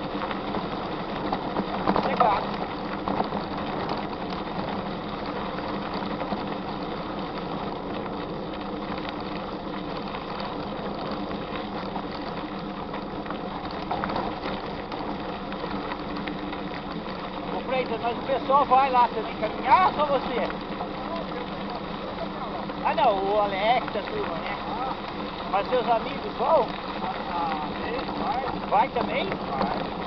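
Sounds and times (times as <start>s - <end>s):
bike tyres crunching on gravel: 0.0s - 30.0s.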